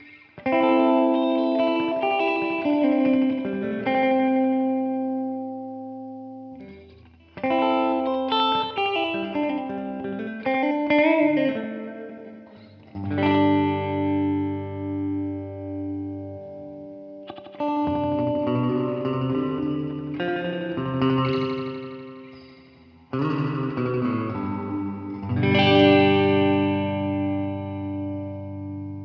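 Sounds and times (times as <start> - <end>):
electric guitar with delay: 0.0 - 29.0.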